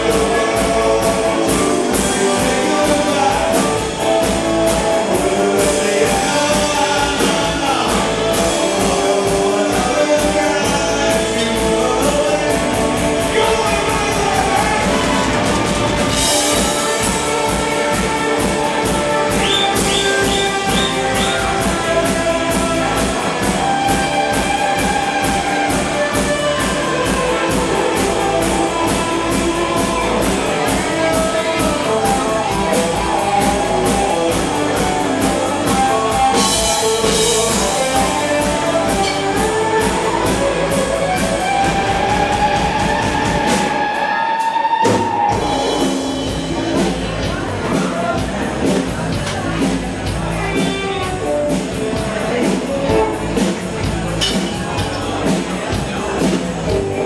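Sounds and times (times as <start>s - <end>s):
lead vocal singing: 0.0s - 49.3s
drum kit: 0.0s - 57.0s
electric guitars: 0.0s - 57.0s.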